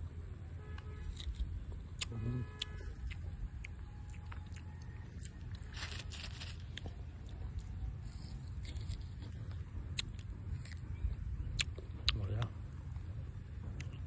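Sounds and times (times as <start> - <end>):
steady low rumble: 0.0 - 14.0
crunching and chewing: 1.0 - 14.0.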